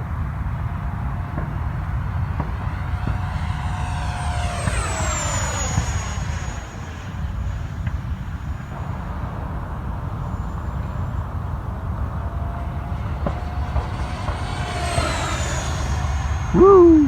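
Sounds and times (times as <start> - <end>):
model jet fan whine: 0.0 - 17.0.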